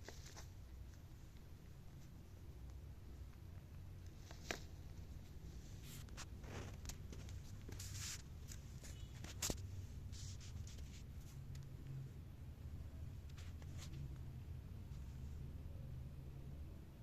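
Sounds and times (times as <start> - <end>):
faint scratching and rustling: 0.0 - 15.6.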